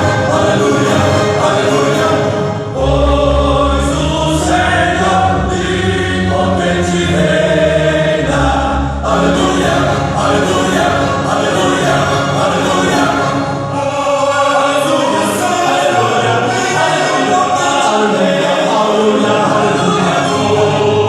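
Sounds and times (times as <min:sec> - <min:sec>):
vocal quartet singing in harmony: 0:00.0 - 0:21.0.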